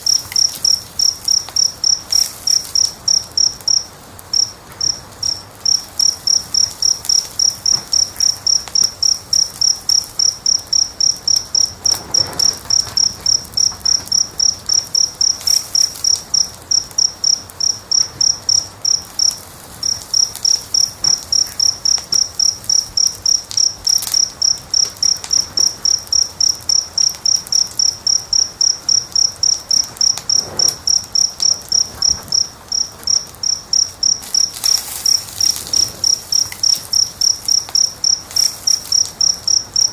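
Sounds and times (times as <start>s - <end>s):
cricket chirping: 0.0s - 39.9s
wood fire crackling: 0.0s - 39.9s.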